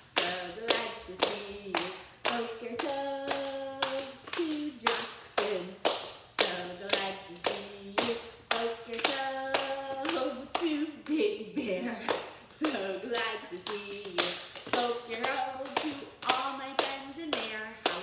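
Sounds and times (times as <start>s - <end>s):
hands clapping a rhythm: 0.0s - 11.3s, 11.9s - 18.0s
voices singing: 0.0s - 18.0s.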